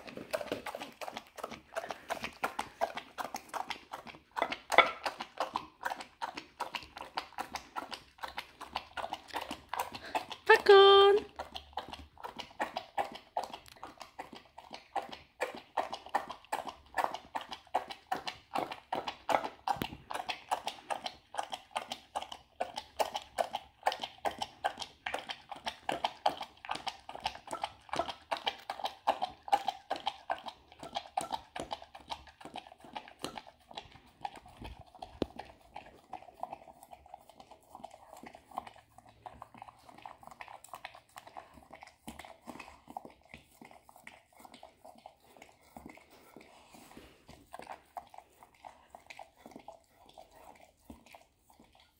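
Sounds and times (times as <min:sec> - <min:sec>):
dog lapping from bowl: 0:00.0 - 0:51.9.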